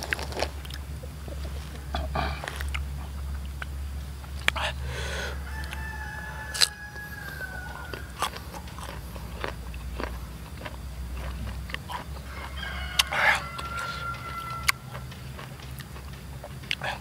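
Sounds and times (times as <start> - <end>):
crunching and chewing mango: 0.0 - 17.0.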